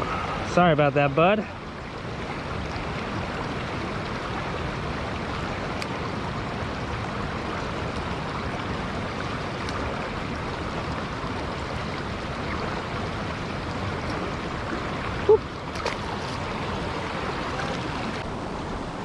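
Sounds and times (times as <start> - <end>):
rain: 0.0 - 19.0
rushing water at a spillway: 0.0 - 19.0.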